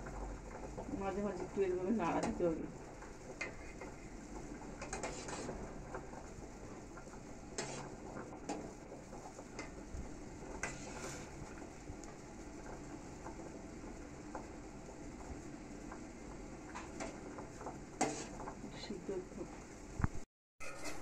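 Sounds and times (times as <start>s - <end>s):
syrup bubbling in pot: 0.0s - 20.2s.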